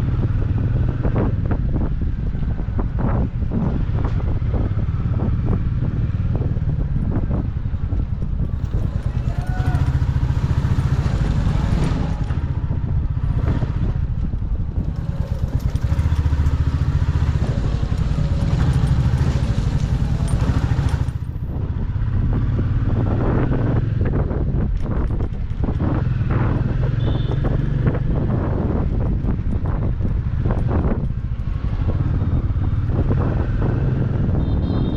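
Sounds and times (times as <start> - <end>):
motorcycle engine drone: 0.0 - 34.9
wind rushing over microphone: 0.0 - 34.9.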